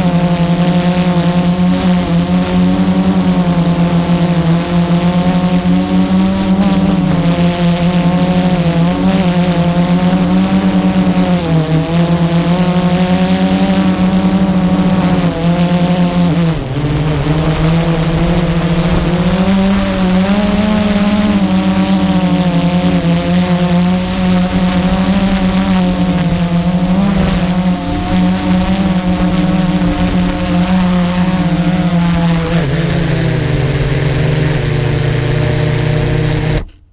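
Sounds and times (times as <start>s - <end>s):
quadcopter motors buzzing: 0.0s - 36.8s.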